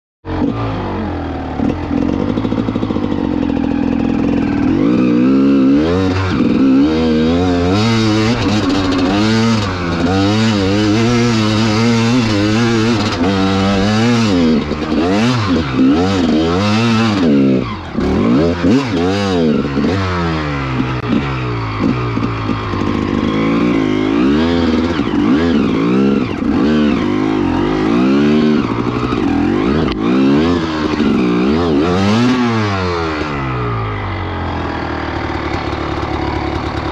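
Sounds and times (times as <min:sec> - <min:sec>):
motorcycle engine revving: 0:00.3 - 0:36.9.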